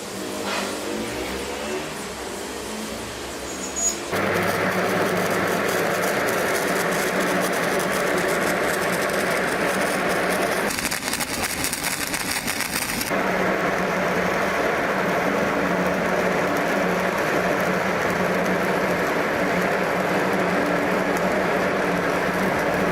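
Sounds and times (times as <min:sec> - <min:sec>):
arc welding crackling: 0:00.0 - 0:22.9.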